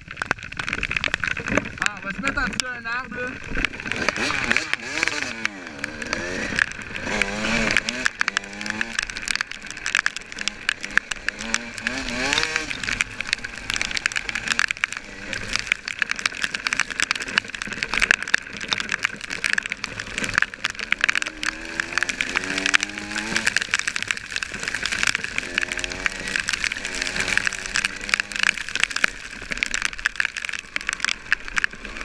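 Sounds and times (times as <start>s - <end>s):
dirt bike engine revving: 3.3s - 29.7s.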